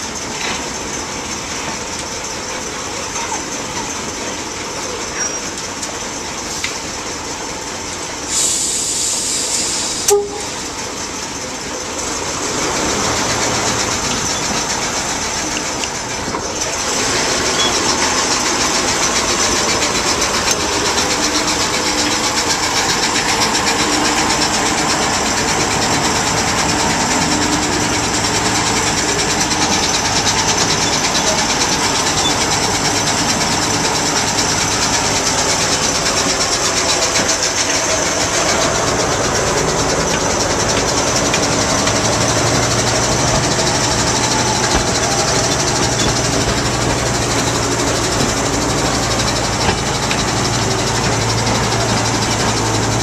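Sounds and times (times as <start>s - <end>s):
diesel engine running: 0.0s - 53.0s
wheels on rails: 0.0s - 53.0s.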